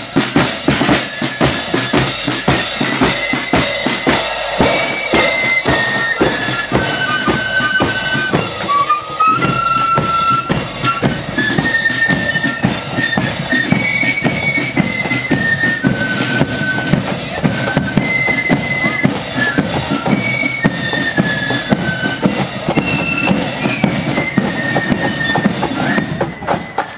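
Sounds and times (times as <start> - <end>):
flute band playing a march: 0.0 - 26.9
regular drum beats: 0.0 - 26.9.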